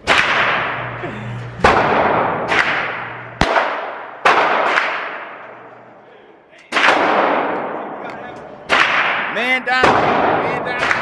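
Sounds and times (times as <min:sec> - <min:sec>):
echoing gunshots: 0:00.0 - 0:01.0, 0:01.6 - 0:05.7, 0:06.7 - 0:11.0.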